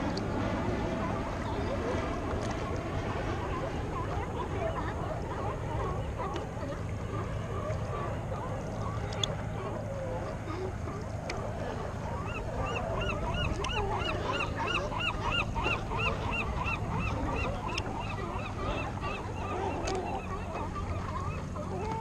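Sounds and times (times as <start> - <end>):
sea lions barking: 3.4 - 22.0.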